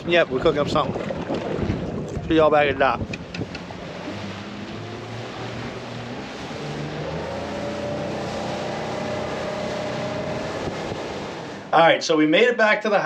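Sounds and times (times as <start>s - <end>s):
outboard motor at speed: 0.0s - 12.0s
rush of wind and water: 0.0s - 12.8s.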